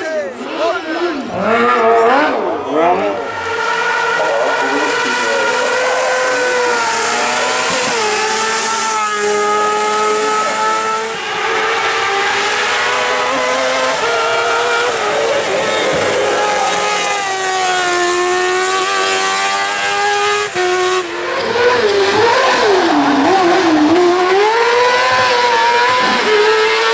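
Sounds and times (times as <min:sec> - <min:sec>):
motorcycle engine at high revs: 0:00.0 - 0:26.9.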